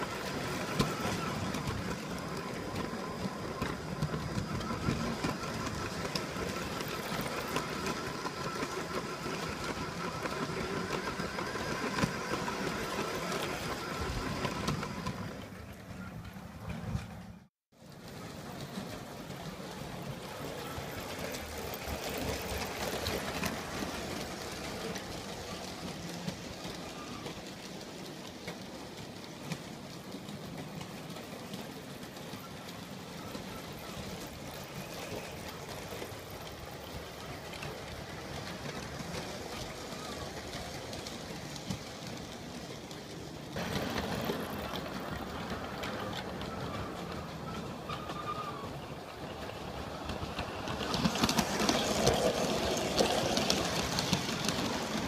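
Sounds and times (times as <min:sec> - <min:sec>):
model train whirring and rattling: 0:00.0 - 0:55.0.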